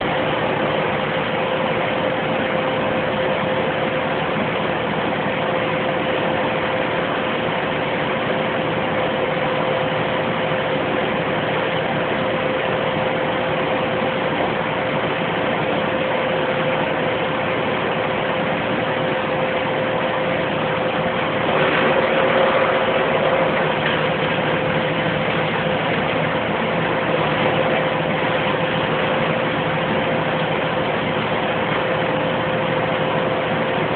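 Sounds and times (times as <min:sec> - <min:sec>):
wood chipper engine drone: 0:00.0 - 0:33.9.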